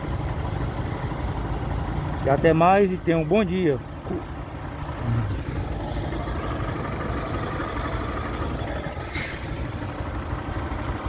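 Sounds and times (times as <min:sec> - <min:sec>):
truck and car engines rumbling: 0:00.0 - 0:11.0.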